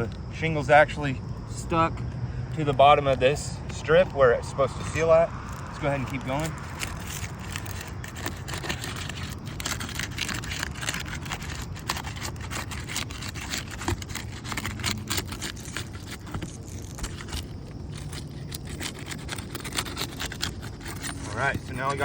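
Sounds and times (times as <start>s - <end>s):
steady low rumble: 0.0s - 22.0s
shingles crackling and scraping: 2.6s - 22.0s.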